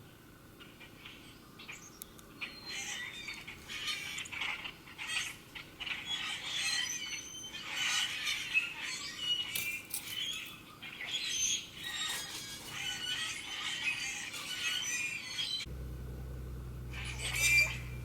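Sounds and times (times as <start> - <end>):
wild birds chirping: 0.0 - 18.0.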